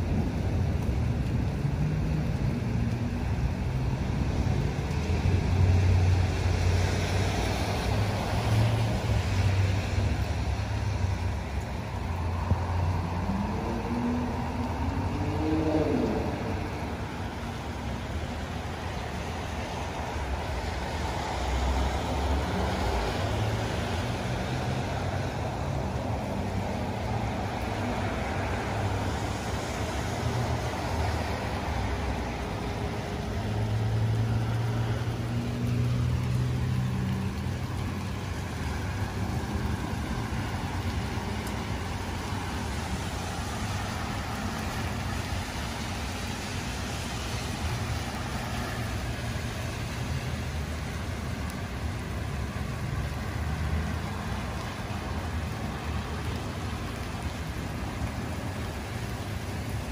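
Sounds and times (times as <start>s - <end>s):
road traffic rumble: 0.0s - 59.9s
steady rain: 0.0s - 59.9s.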